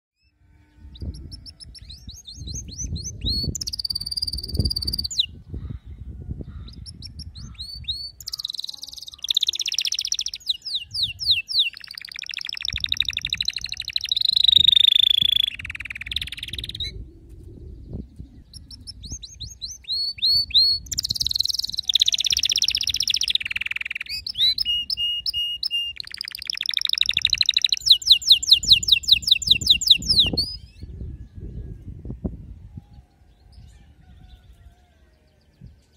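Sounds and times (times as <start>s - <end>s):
canary singing: 0.2s - 5.5s, 6.5s - 17.0s, 18.0s - 31.8s.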